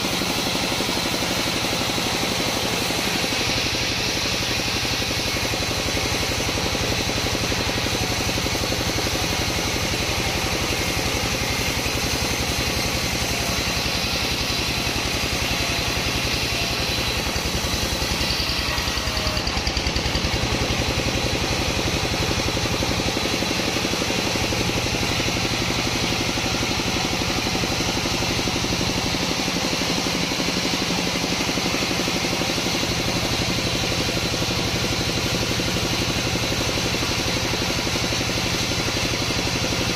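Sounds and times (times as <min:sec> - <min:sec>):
engine droning: 0:00.0 - 0:39.9
saw noise: 0:00.0 - 0:39.9.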